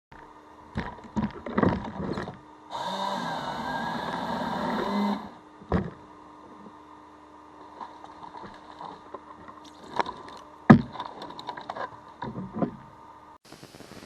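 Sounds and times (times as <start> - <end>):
mechanical whine and hum: 0.1 - 14.0.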